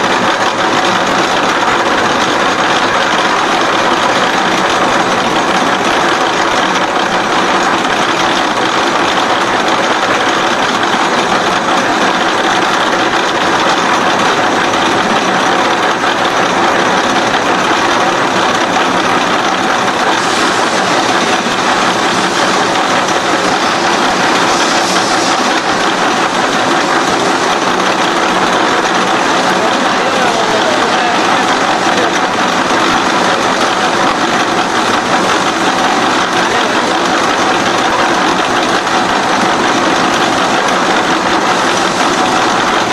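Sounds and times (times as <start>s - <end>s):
machine grinding steel: 0.0s - 42.9s.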